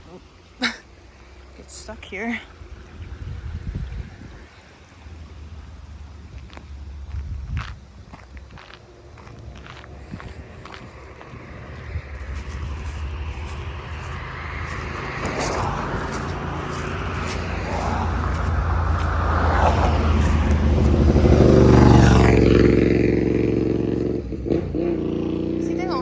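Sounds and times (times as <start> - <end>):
motor vehicle passing: 0.2 - 26.0.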